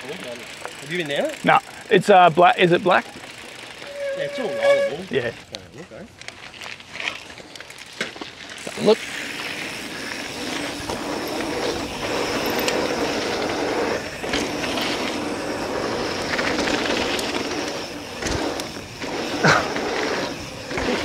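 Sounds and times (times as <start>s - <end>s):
bike clicks and rattles: 0.0s - 21.0s
bike tyres rolling on dirt: 0.0s - 21.0s.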